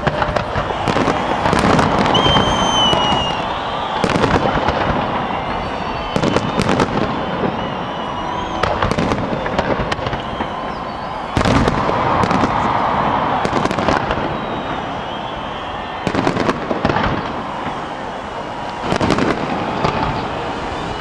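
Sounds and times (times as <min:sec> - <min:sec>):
firework bangs and crackling: 0:00.0 - 0:21.0.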